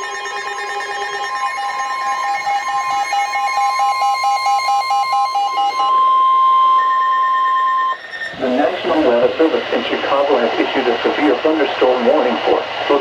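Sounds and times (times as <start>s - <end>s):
steady warning alarm tone: 0.0s - 13.0s.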